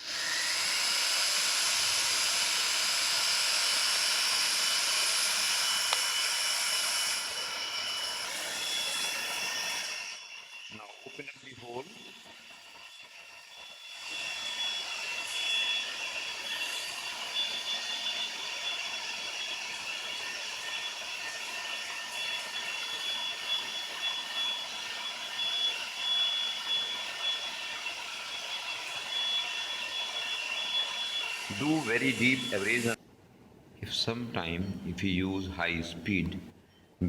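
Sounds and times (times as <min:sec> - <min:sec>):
rotary handpiece whining: 0:00.0 - 0:33.0.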